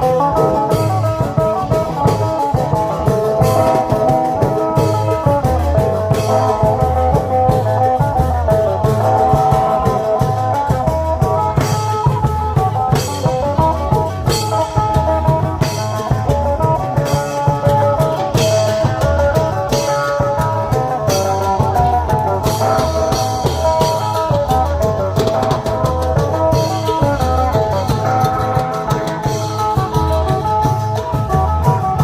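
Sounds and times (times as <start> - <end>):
drum band playing procession music: 0.0 - 32.0
drums pounding: 0.0 - 32.0.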